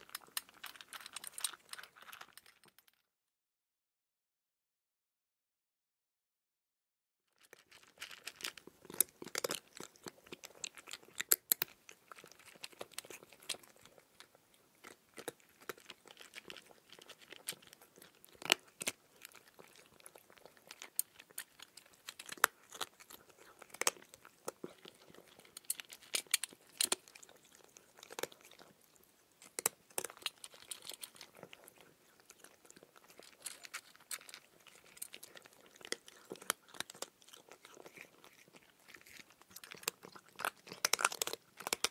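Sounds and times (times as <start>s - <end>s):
crisp crunches and clicks: 0.0s - 3.0s, 7.4s - 41.9s.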